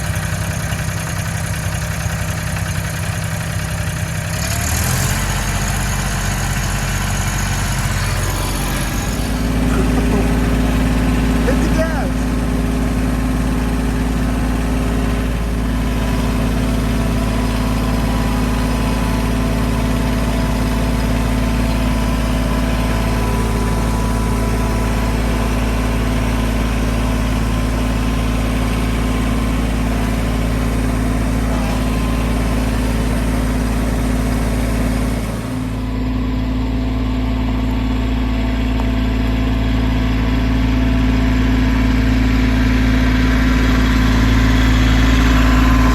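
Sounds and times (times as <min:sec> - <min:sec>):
vehicle engine idling: 0:00.0 - 0:45.9.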